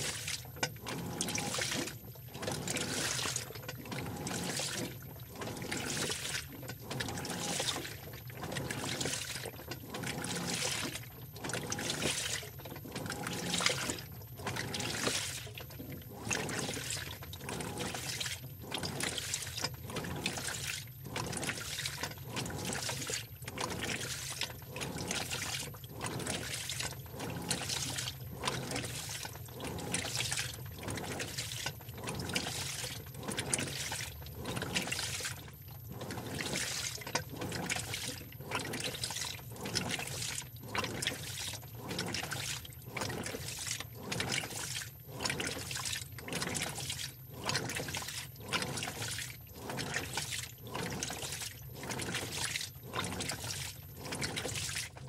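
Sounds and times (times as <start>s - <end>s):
low motor hum: 0.0s - 55.0s
water sloshing in washing machine: 0.0s - 55.0s.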